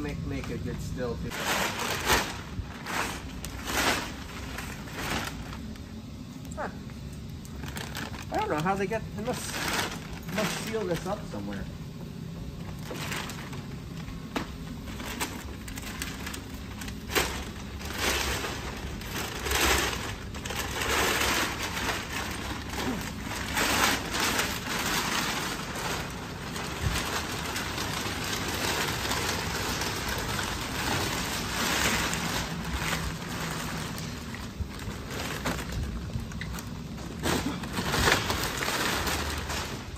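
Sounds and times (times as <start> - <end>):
foil bag crinkling and rustling: 0.0 - 11.7, 12.4 - 39.9
steady low hum: 0.0 - 39.9.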